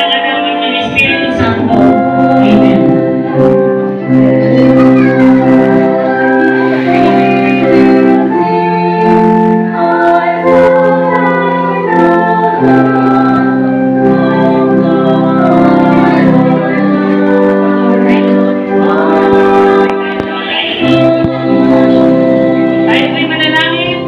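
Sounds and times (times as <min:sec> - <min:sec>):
organ playing hymn chords: 0:00.0 - 0:24.0.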